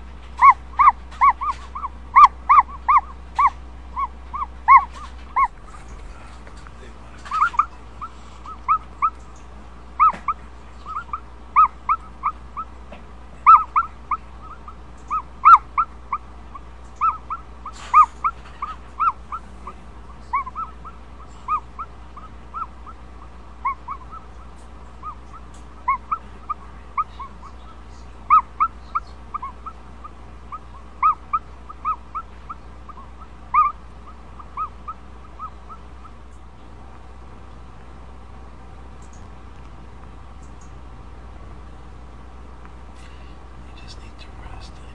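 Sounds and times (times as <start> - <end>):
ostrich chick peeping: 0.0 - 38.2.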